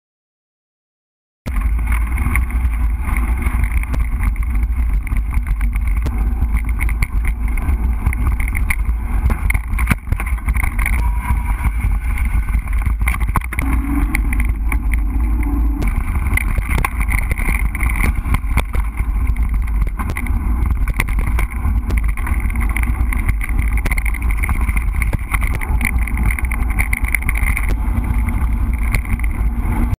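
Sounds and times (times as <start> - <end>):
bike clicking and rattling over bumps: 1.5 - 30.0
wind rumbling on microphone: 1.5 - 30.0.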